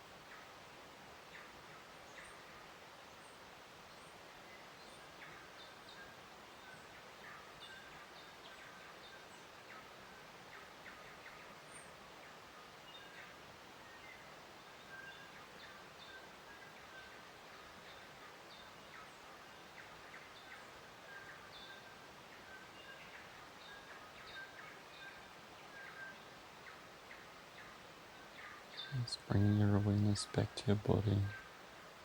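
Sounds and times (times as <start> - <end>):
soft steady hiss: 0.0 - 32.0.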